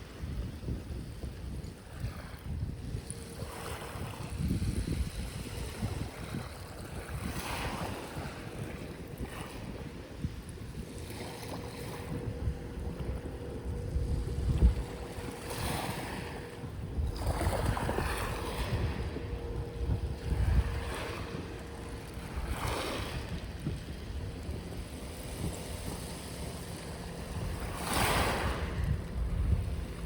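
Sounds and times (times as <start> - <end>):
faint steady hum: 0.0 - 30.0
wind buffeting microphone: 0.0 - 30.0.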